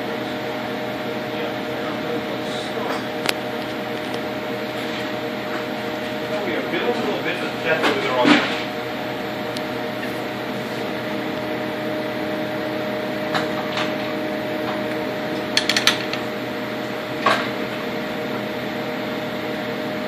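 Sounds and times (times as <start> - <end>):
mill machine humming: 0.0 - 20.0.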